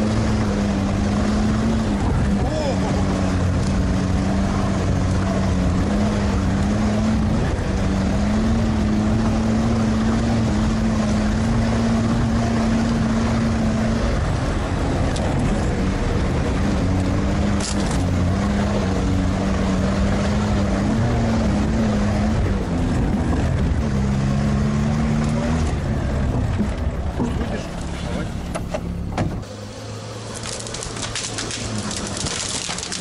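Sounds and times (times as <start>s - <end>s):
all-terrain vehicle engine running: 0.0s - 33.0s.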